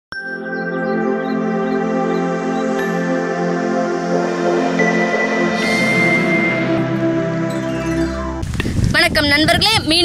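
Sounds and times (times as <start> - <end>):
calm ambient music: 0.2 - 8.6.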